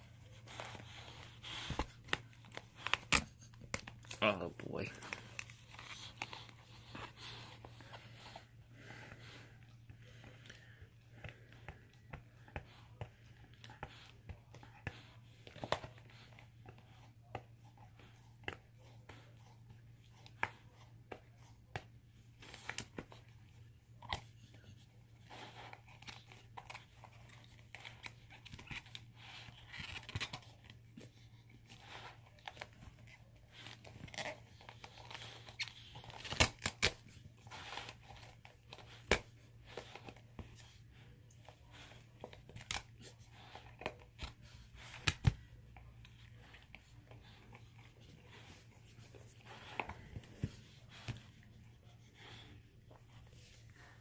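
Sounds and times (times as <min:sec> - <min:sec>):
dog chewing and tearing toy: 0:00.0 - 0:04.2, 0:04.8 - 0:53.9.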